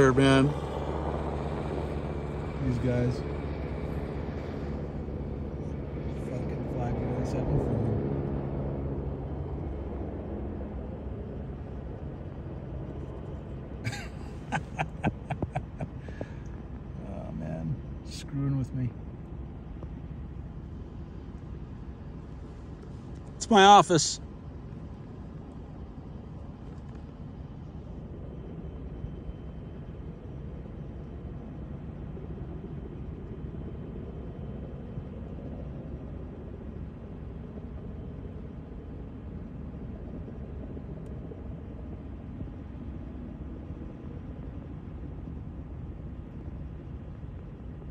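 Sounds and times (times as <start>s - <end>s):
distant helicopter rumble: 0.0s - 47.9s.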